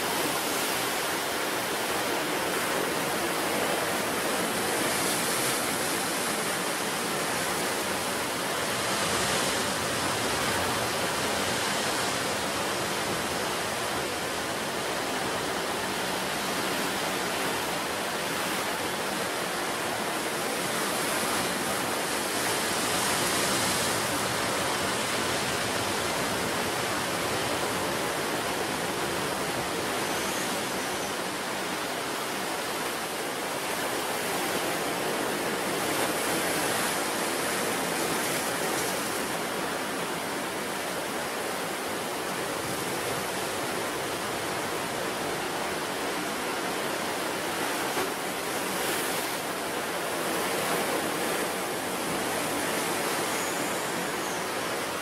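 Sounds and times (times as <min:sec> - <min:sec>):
sea surf washing on shore: 0:00.0 - 0:55.0.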